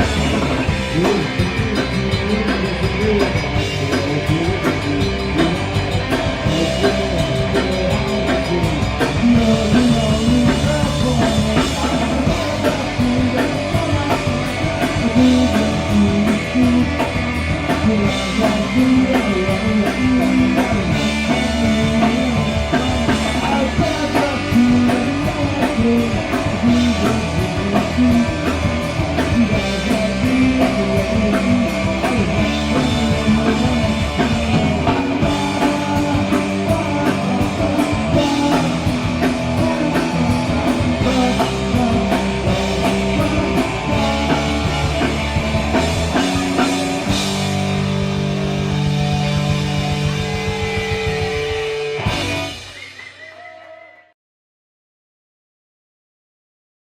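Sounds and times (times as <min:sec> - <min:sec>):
bass guitar: 0:00.0 - 0:53.2
distorted electric guitars: 0:00.0 - 0:53.4
driving drum kit: 0:00.0 - 0:53.4.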